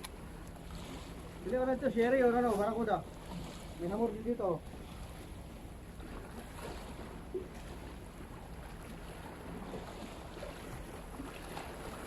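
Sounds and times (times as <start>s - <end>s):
water: 0.0s - 12.0s.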